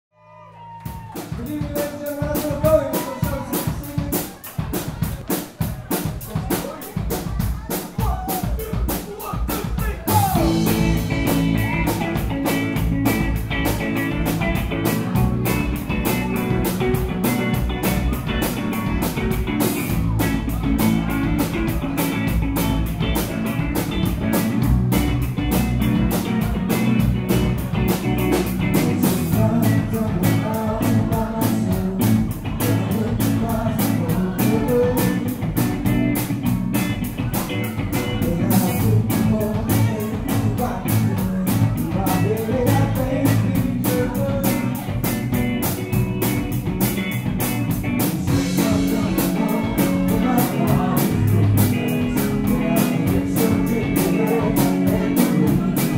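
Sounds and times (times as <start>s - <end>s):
guitar: 0.1s - 55.9s
live band playing: 0.5s - 55.9s
drum kit beat: 0.6s - 55.9s.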